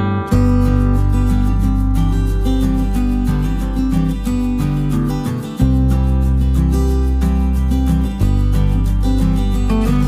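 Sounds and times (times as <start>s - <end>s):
held bass notes: 0.0s - 10.0s
strummed acoustic guitar: 0.0s - 10.0s.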